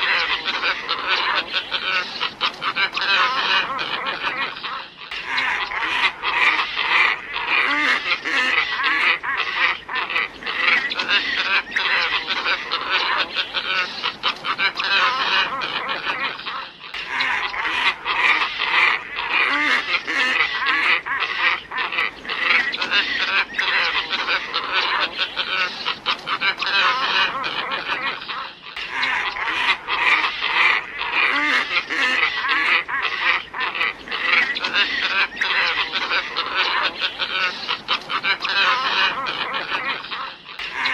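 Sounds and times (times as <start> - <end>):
ibises calling in a dense chorus: 0.0 - 40.9.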